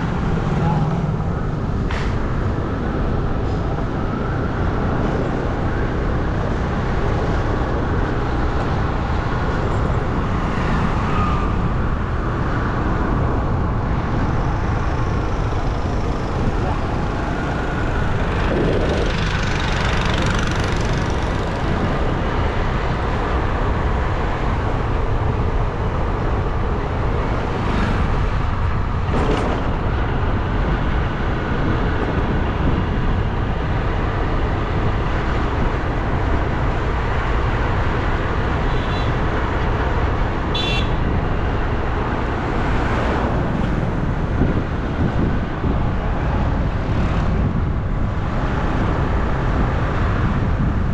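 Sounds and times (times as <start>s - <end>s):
bike road noise: 0.0s - 50.9s
passing traffic: 0.0s - 50.9s
wind on microphone: 0.0s - 50.9s.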